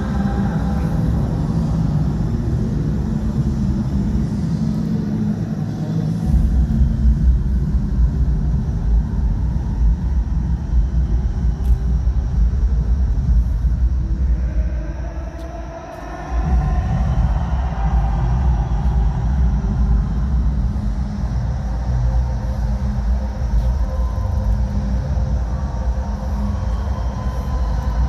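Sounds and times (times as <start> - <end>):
distant party music bass: 0.0 - 28.0.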